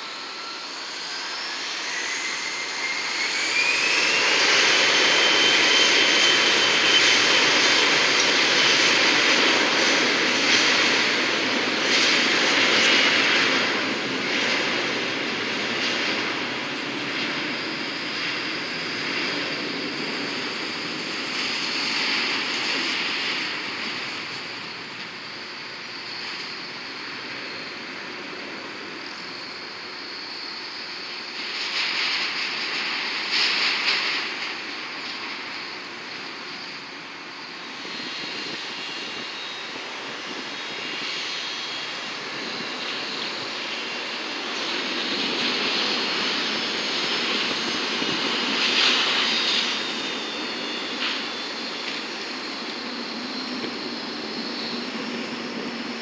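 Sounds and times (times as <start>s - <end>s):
jet engines passing: 0.0s - 56.0s.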